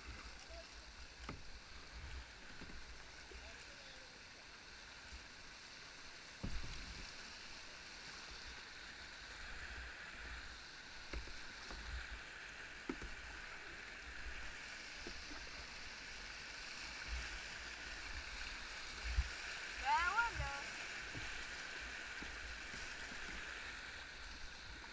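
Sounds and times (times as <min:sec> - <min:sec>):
rushing white water: 0:00.0 - 0:24.9.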